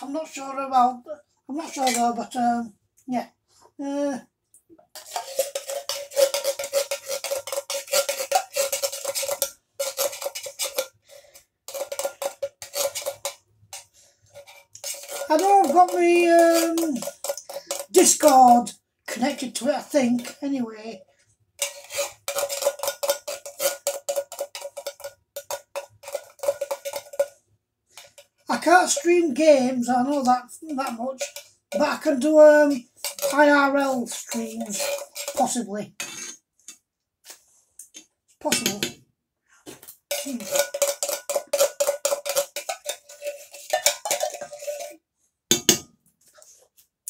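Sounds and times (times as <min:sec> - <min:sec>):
spoon scraping inside tin can: 0:01.6 - 0:02.2, 0:04.9 - 0:20.4, 0:21.6 - 0:39.0, 0:39.9 - 0:46.6.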